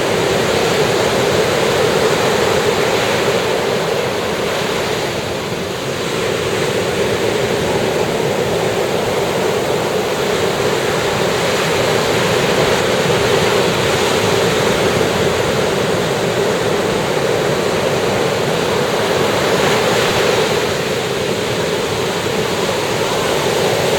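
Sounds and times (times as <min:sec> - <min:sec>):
waves breaking on beach: 0:00.0 - 0:23.9.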